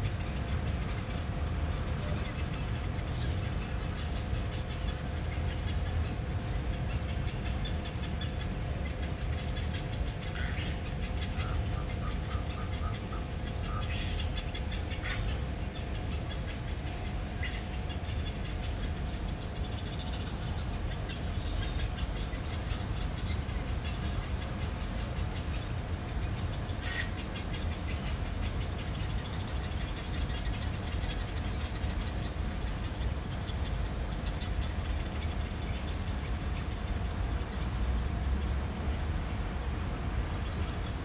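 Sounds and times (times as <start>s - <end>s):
birds calling: 0.0s - 38.6s
faint hum: 0.0s - 41.0s
low outdoor rumble: 0.0s - 41.0s.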